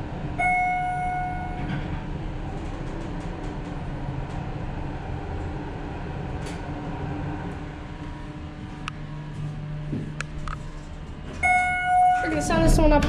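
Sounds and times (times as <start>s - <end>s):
elevator cab rumble: 0.0s - 13.0s
steady low hum: 0.0s - 13.0s.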